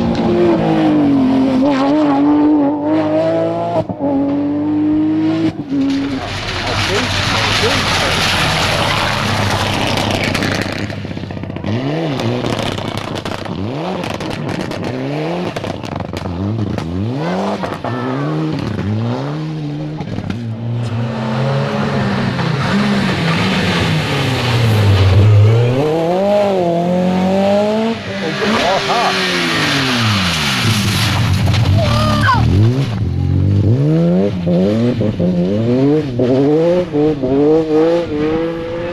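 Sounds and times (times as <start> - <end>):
engines revving through gear changes: 0.0 - 6.2, 6.8 - 38.9
rally cars passing: 0.0 - 38.9.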